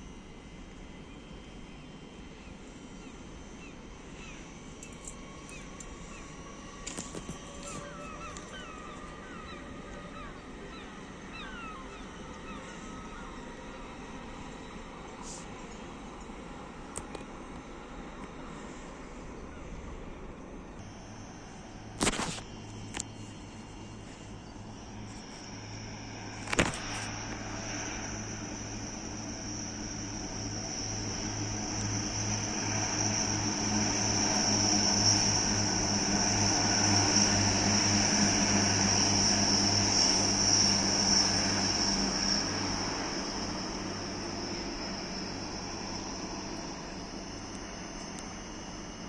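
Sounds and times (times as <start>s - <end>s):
train passing with high whine: 0.0s - 49.0s.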